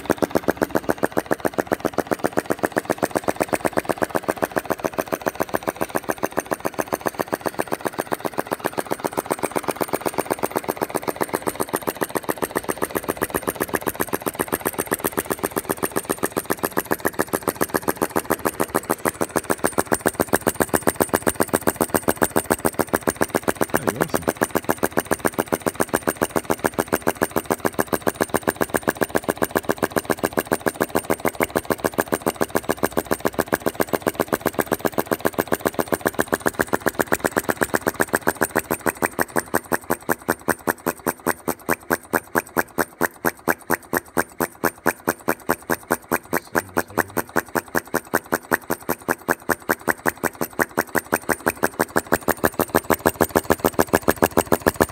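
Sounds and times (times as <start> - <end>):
model engine clicking: 0.0 - 54.9.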